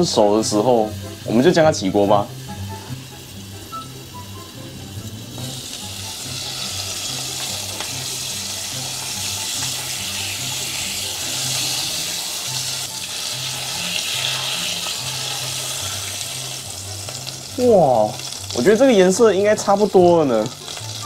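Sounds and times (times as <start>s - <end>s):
steak sizzling in a pan: 0.0s - 21.0s.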